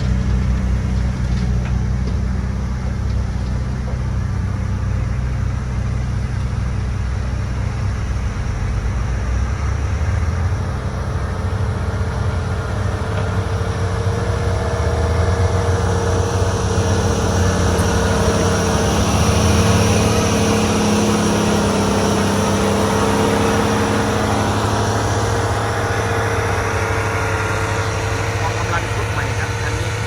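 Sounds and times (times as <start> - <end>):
heavy diesel engine droning: 0.0 - 30.0.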